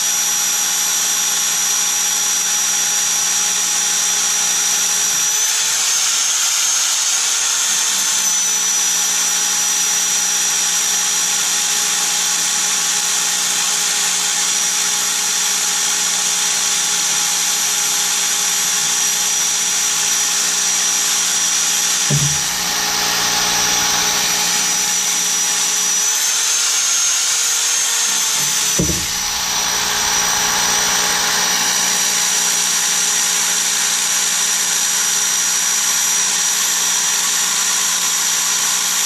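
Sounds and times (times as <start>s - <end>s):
hammer drill boring: 0.4s - 39.0s.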